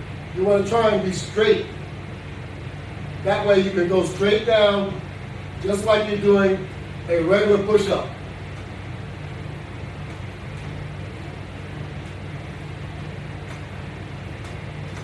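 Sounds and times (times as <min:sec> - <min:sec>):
room noise hiss: 0:00.0 - 0:15.0
steady low hum: 0:00.0 - 0:15.0.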